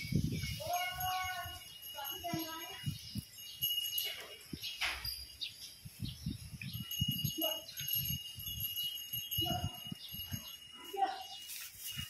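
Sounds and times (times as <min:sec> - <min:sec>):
high ringing tones: 0:00.0 - 0:12.0.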